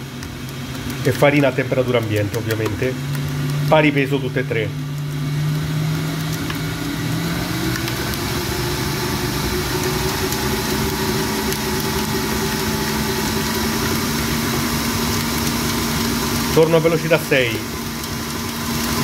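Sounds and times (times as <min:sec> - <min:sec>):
stand mixer motor humming: 0:00.0 - 0:19.0.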